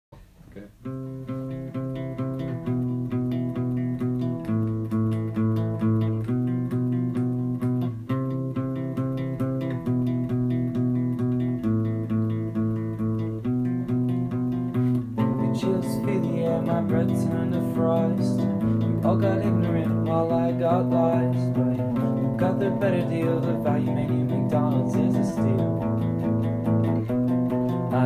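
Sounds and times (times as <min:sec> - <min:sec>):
guitar chords strummed: 0:00.6 - 0:28.0.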